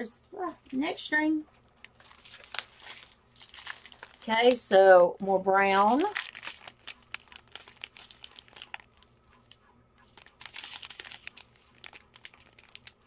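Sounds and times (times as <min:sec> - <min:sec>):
plastic bags crinkling: 0:00.6 - 0:13.0.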